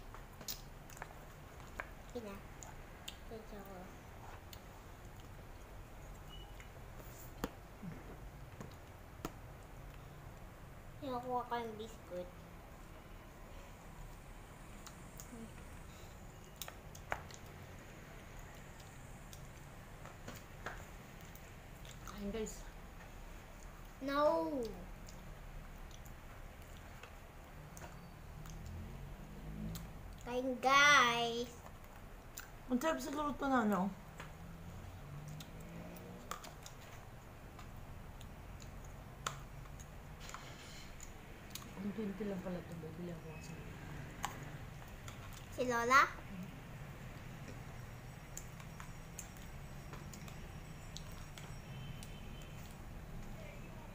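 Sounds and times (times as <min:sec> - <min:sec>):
faint low hum: 0:00.0 - 0:53.9.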